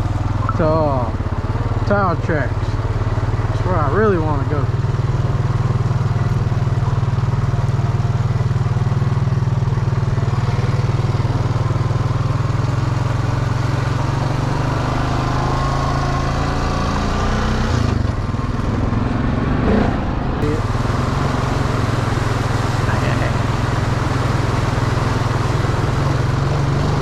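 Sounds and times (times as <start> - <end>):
off-road bike engine running: 0.0 - 27.0.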